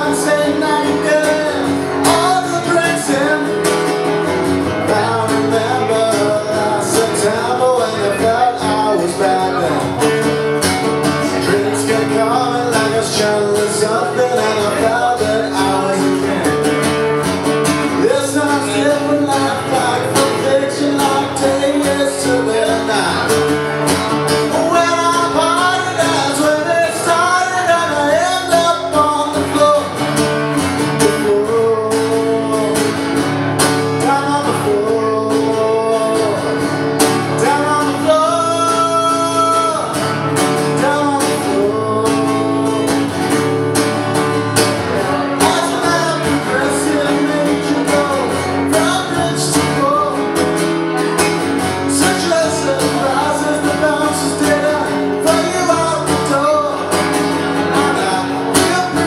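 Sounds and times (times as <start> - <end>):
man singing: 0.0 - 59.0
strummed acoustic guitar: 0.0 - 59.0.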